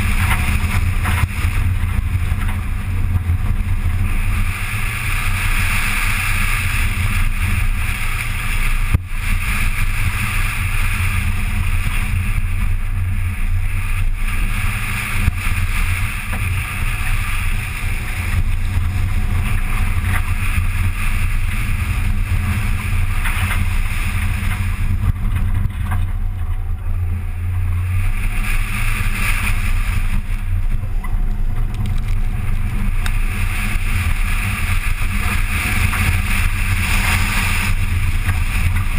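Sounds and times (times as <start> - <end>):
car engine running: 0.0 - 38.9
wind noise on microphone: 0.0 - 38.9.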